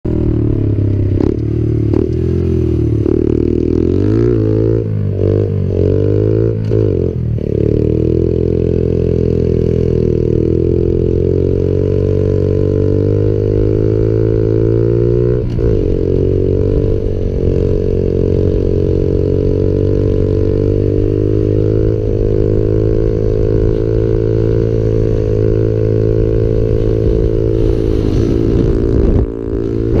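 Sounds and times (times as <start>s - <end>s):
small motorcycle engine revving: 0.1s - 30.0s.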